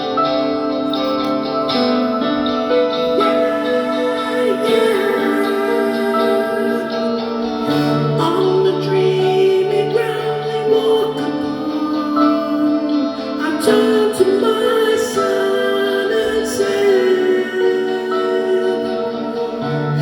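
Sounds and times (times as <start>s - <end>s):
live band playing slow chords: 0.0s - 20.0s.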